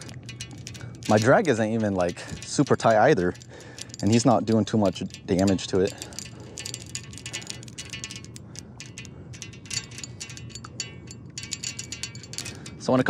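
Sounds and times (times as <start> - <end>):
fishing reel drag clicking: 0.0 - 12.8.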